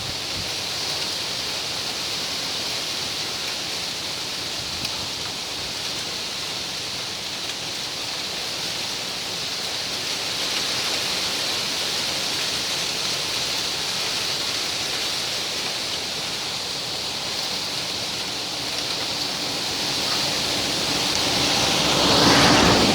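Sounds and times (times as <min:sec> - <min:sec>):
wind rustling palm fronds: 0:00.0 - 0:22.9.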